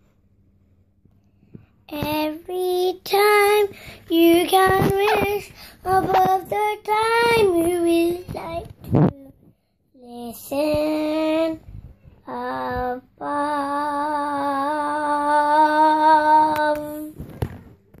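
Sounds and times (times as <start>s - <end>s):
girl singing wordless notes: 1.9s - 17.2s.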